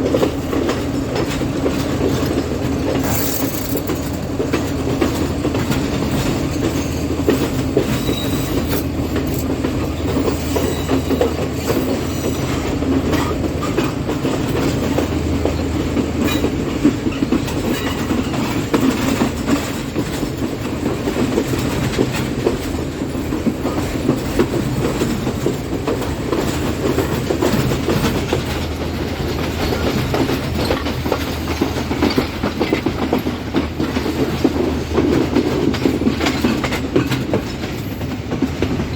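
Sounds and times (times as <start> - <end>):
train engine drone: 0.0 - 38.9
wheels clacking over rail joints: 0.0 - 38.9.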